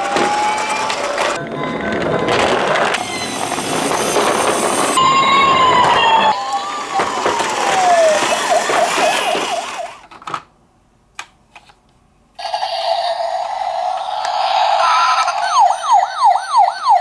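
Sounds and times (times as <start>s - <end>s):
police car siren: 0.0s - 10.1s, 12.4s - 17.0s.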